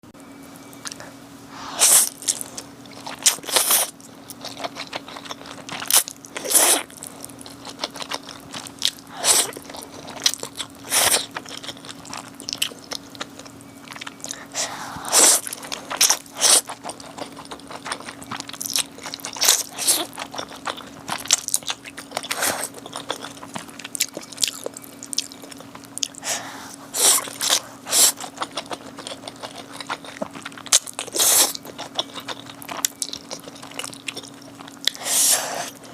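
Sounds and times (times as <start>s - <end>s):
faint steady hum: 0.0s - 35.9s
crisp bites and chewing: 2.0s - 14.6s, 15.3s - 26.2s, 26.9s - 35.0s.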